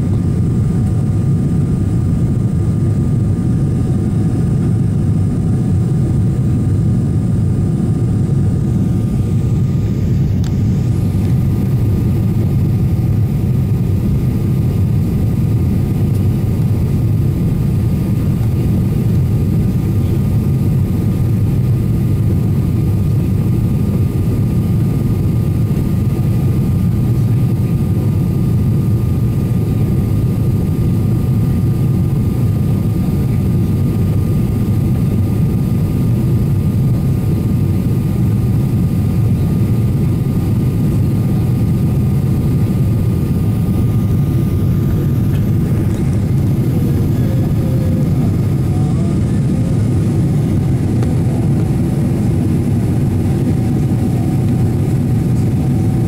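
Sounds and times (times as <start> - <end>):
airliner cabin low rumble: 0.0 - 56.0.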